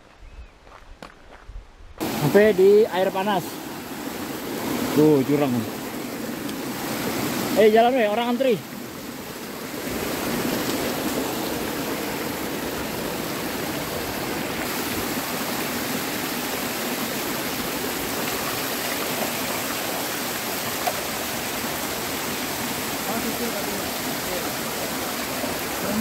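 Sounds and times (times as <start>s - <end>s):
stream rushing over rocks: 2.0s - 26.0s.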